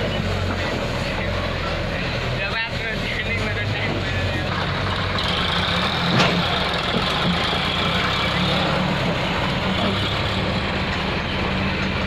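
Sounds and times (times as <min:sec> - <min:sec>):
tractor diesel engine: 0:00.0 - 0:12.0.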